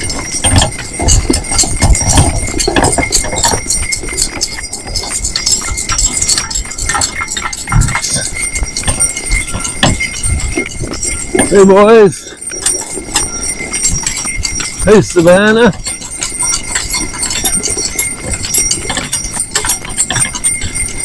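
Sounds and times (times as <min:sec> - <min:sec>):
horse hoofbeats on snow: 0:00.0 - 0:21.0.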